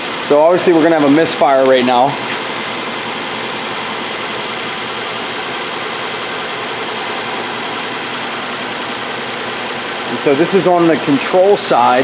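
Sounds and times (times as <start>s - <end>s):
misfiring car engine idling: 0.0s - 12.0s.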